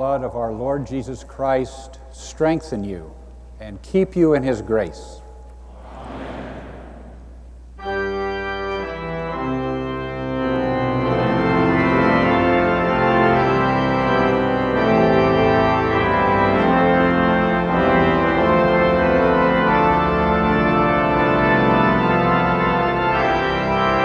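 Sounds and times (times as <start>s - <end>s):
pipe organ chords: 0.0s - 24.0s.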